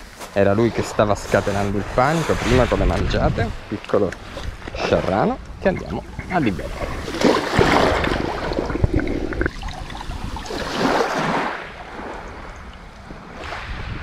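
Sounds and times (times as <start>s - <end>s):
sea water sloshing and splashing: 0.6s - 14.0s.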